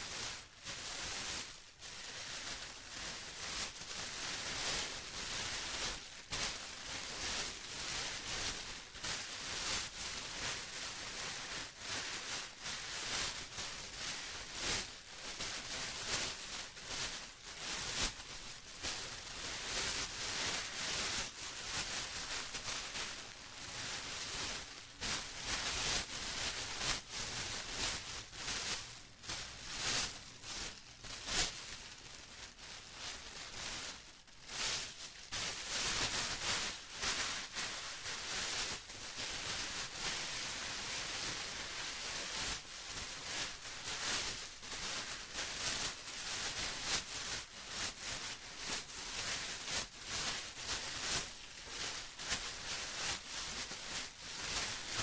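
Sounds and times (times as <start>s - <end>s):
plastic rustling and crinkling: 0.0s - 55.0s.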